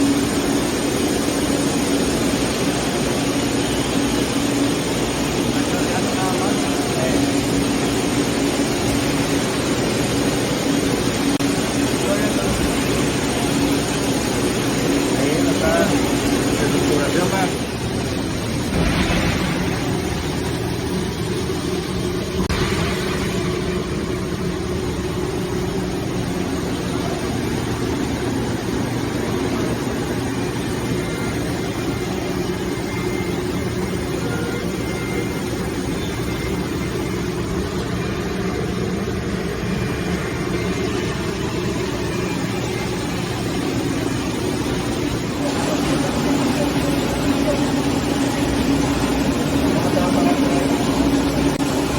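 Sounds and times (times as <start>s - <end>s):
industrial machinery humming: 0.0s - 51.9s.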